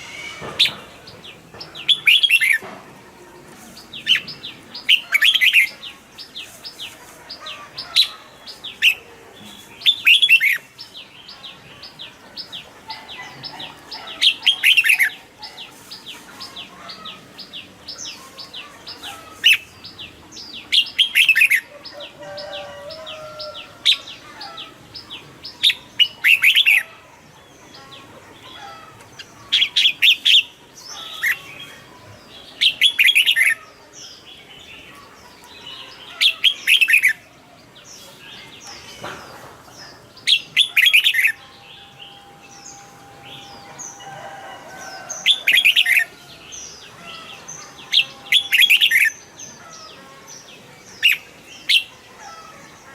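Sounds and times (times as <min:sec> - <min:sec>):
bulbul singing: 0:00.0 - 0:02.8, 0:03.5 - 0:52.9.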